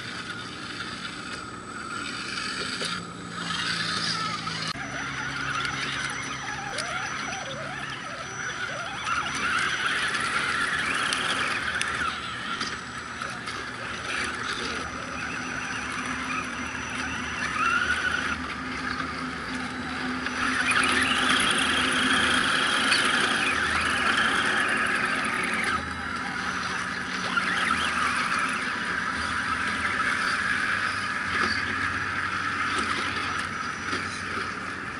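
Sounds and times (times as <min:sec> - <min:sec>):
high-pitched electric motor whine: 0:00.0 - 0:34.9.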